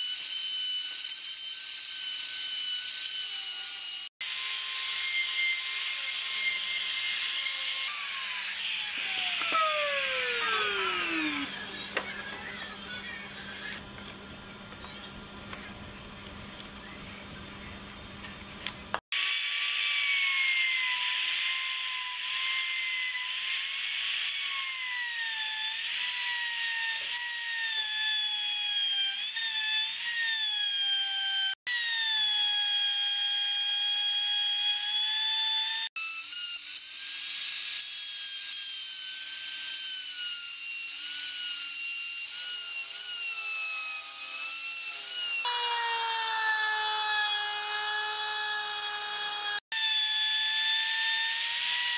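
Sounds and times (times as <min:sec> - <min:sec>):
trim router cutting wood: 0:00.0 - 0:13.8, 0:19.1 - 0:51.9.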